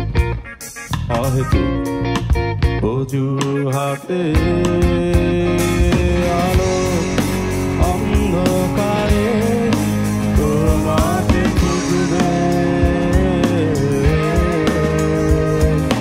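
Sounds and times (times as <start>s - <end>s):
bass guitar: 0.0s - 16.0s
drum kit beat: 0.0s - 16.0s
electric guitar: 0.0s - 16.0s
live rock band playing: 0.0s - 16.0s.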